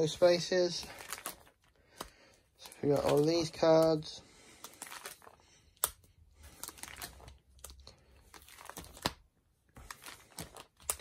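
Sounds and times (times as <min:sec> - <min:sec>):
plastic pages rustling: 0:00.0 - 0:11.0.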